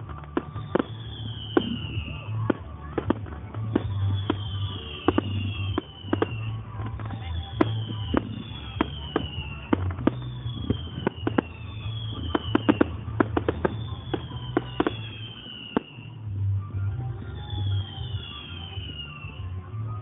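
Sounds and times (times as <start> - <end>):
fireworks bangs and cracks: 0.0 - 19.5
fireworks whistles falling in pitch: 0.1 - 20.0.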